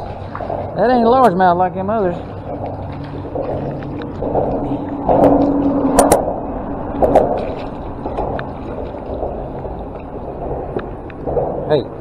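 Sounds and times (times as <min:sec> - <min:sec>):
water sloshing against hull: 0:00.0 - 0:12.0
fish splashing at water surface: 0:02.0 - 0:11.7.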